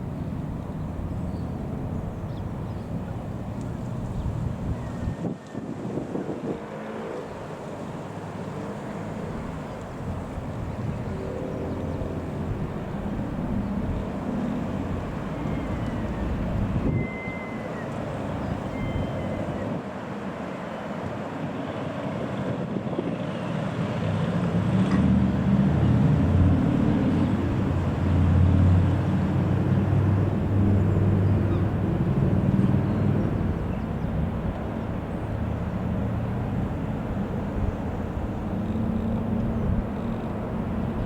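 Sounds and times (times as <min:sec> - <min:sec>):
airplane propeller drone: 0:00.0 - 0:41.0.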